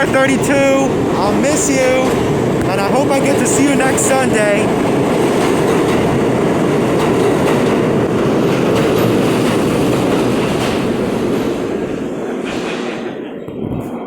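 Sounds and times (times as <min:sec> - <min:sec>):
subway train wheels rumbling on rail: 0:00.0 - 0:14.0.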